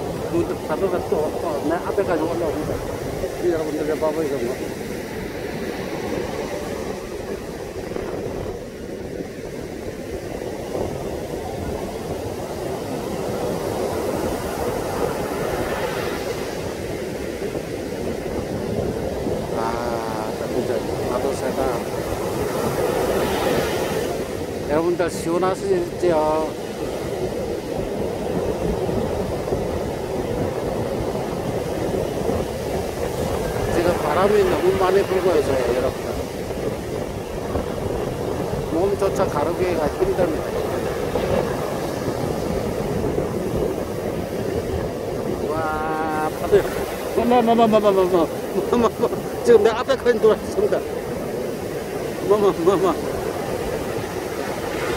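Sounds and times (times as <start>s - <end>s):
heavy surf breaking on beach: 0.0s - 54.9s
wind buffeting microphone: 0.0s - 54.9s.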